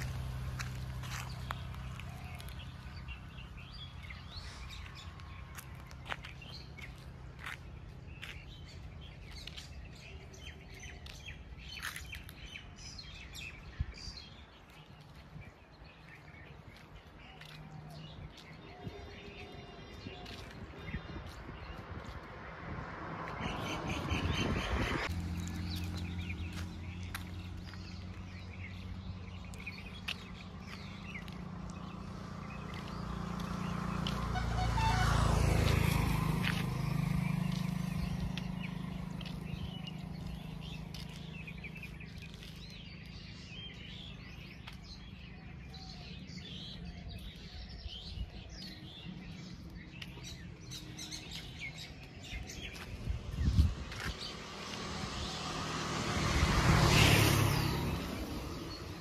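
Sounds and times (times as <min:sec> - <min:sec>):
vehicle passing: 0:00.0 - 0:15.2, 0:20.2 - 0:47.3, 0:47.9 - 0:59.0
birds chirping: 0:00.0 - 0:59.0.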